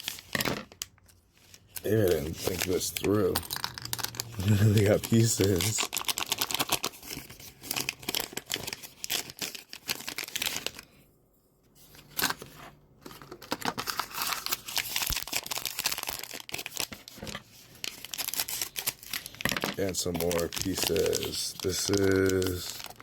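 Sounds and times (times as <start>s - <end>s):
plastic packaging crinkling and tearing: 0.0s - 10.9s, 11.8s - 23.0s.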